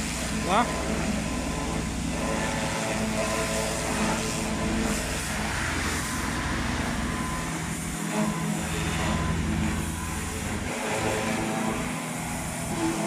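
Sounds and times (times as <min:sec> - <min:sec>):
low motor hum: 0:00.0 - 0:13.0
pressure washer jet hissing: 0:00.0 - 0:13.0.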